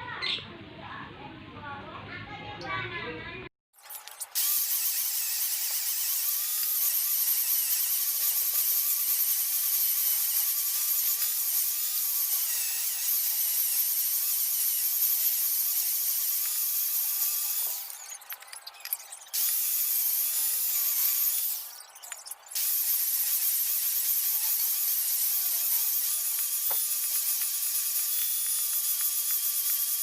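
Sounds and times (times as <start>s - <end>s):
power tool high whine: 4.3s - 30.0s.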